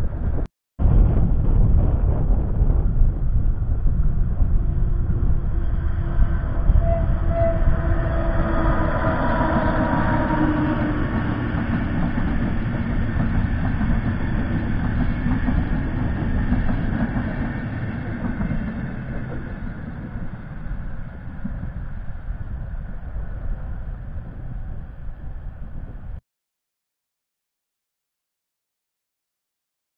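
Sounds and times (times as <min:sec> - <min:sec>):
train wheels rumbling on rails: 0:00.0 - 0:26.2.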